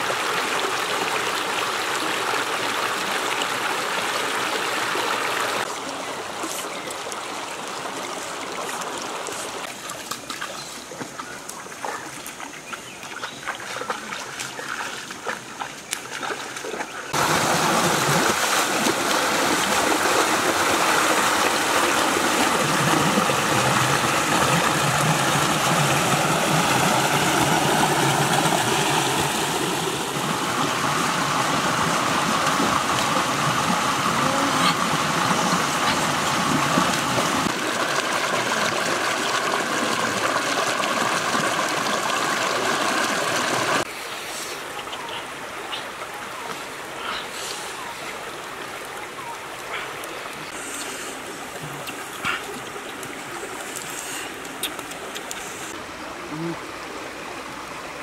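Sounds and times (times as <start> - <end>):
stream water rushing over rocks: 0.0 - 58.0
water splashes: 0.0 - 58.0.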